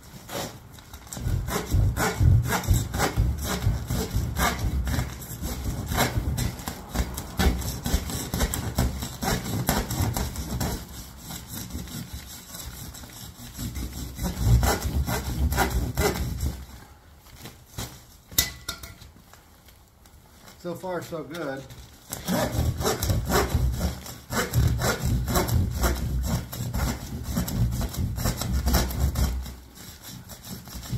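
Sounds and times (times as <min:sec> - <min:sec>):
hand saw rasping through insulation: 0:00.0 - 0:16.7, 0:22.1 - 0:30.9.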